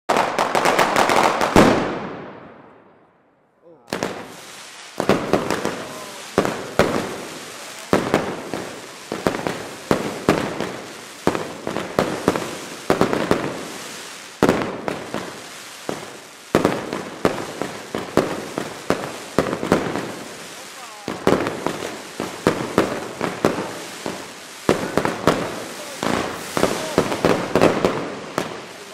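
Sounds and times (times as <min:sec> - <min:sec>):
firecrackers banging: 0:00.1 - 0:02.8, 0:03.8 - 0:28.9.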